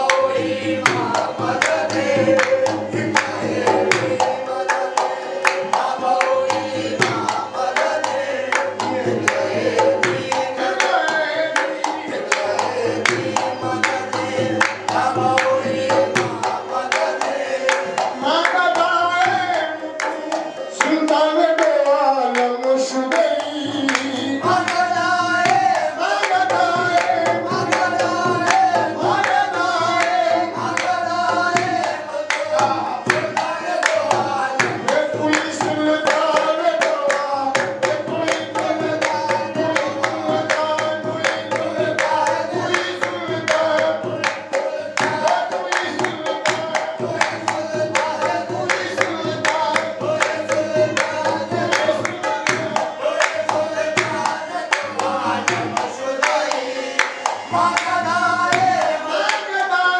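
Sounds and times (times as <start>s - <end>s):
steady percussion beat: 0.0s - 59.7s.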